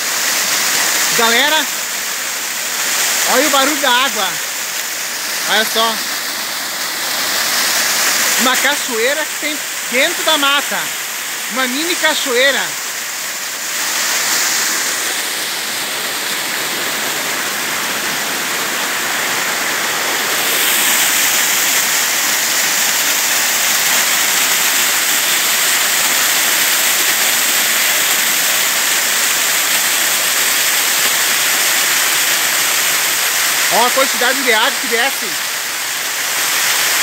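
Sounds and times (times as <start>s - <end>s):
waterfall rushing over rocks: 0.0s - 37.0s.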